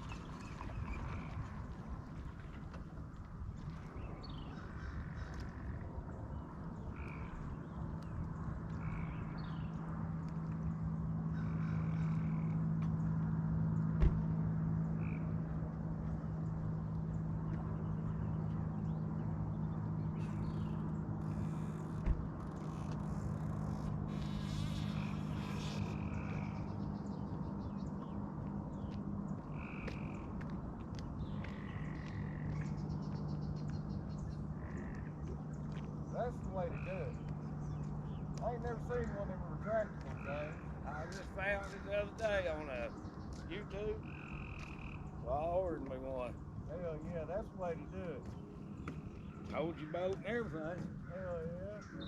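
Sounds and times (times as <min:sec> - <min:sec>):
frogs chirping: 0:00.0 - 0:02.5, 0:03.6 - 0:52.0
boat motor running: 0:00.0 - 0:52.0.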